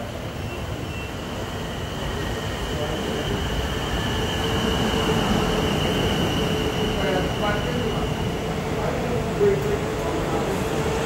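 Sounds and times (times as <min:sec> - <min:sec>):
electric train rolling in: 0:00.0 - 0:11.0.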